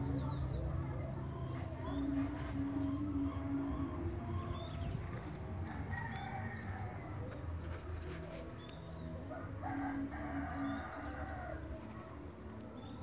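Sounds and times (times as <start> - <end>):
birds with low repeating notes: 0.0 - 13.0.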